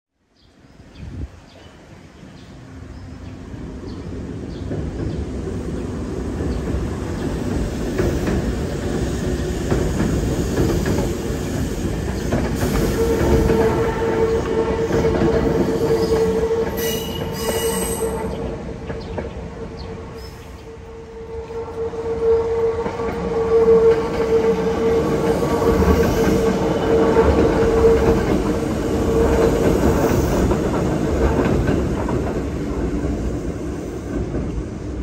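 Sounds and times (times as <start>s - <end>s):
steady train whine: 0.8s - 35.0s
electric train rumble: 1.0s - 35.0s.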